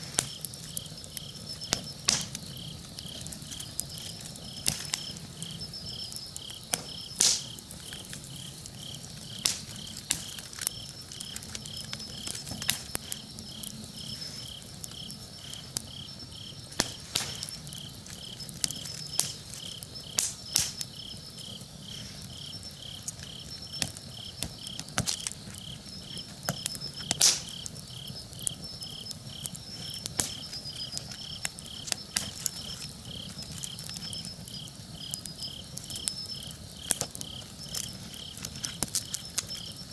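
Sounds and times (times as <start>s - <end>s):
campfire crackling and popping: 0.0s - 39.9s
crickets chirping: 0.0s - 39.9s
high insect trill: 0.0s - 39.9s.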